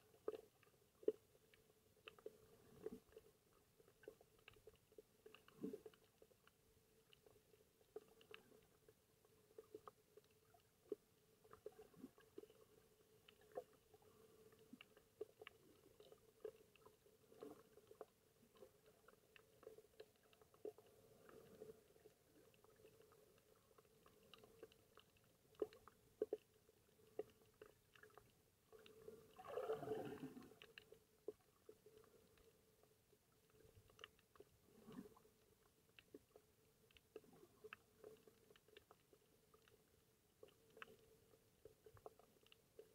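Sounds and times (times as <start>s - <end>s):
small underwater clicks and crackles: 0.0s - 42.9s.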